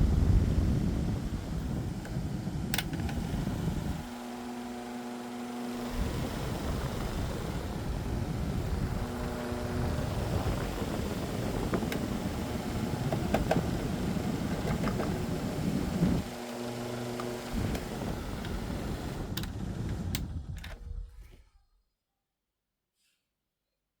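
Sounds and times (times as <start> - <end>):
rush of air from fan: 0.0 - 20.6
fan motor humming: 0.0 - 21.4.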